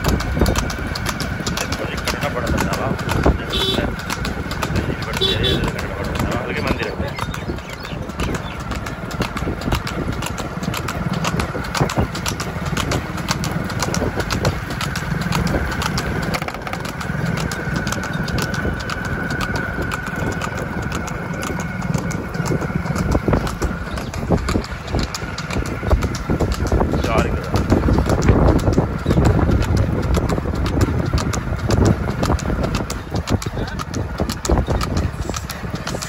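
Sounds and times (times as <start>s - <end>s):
engine running: 0.0s - 36.0s
hooves clattering on hard ground: 0.0s - 36.0s.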